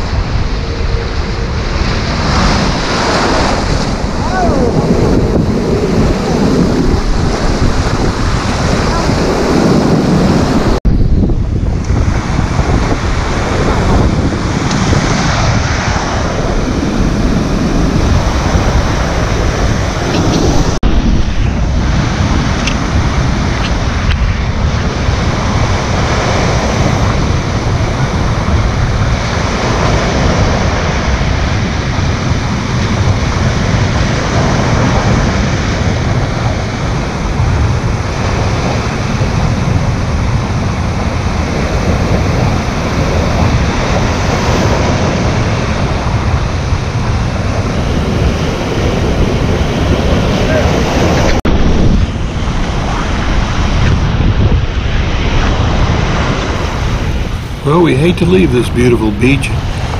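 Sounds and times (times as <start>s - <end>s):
ocean surf breaking: 0.0s - 59.9s
wind buffeting microphone: 0.0s - 59.9s.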